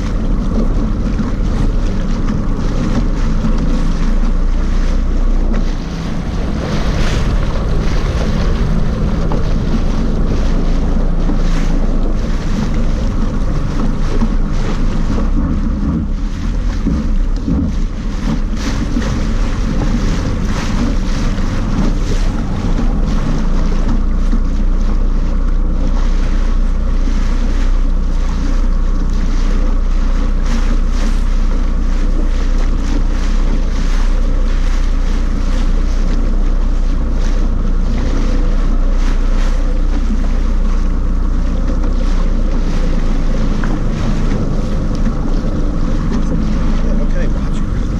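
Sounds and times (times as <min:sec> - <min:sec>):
jet ski engine drone: 0:00.0 - 0:47.9
water splashing against hull: 0:00.0 - 0:47.9
wind buffeting microphone: 0:00.0 - 0:47.9.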